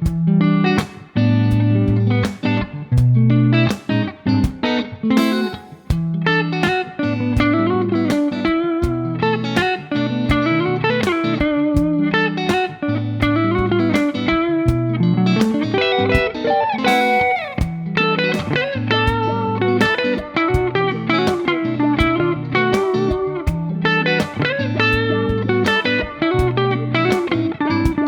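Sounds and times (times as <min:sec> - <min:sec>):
electric guitar playing: 0:00.0 - 0:28.0.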